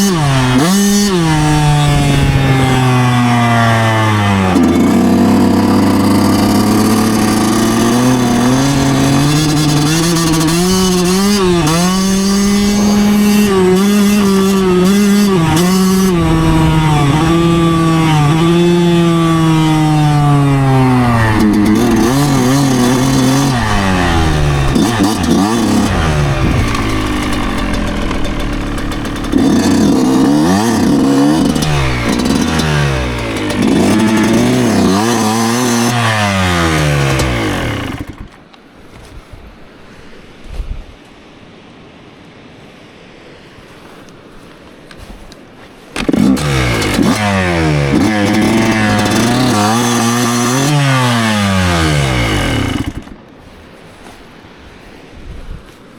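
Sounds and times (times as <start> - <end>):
two-stroke motorcycle engine revving: 0.0 - 38.4, 46.0 - 53.3.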